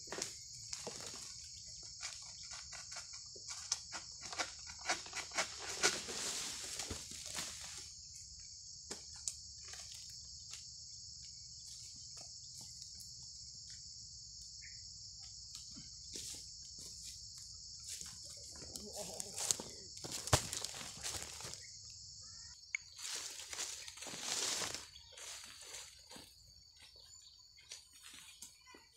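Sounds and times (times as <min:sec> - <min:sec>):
insect chorus droning: 0:00.0 - 0:28.9.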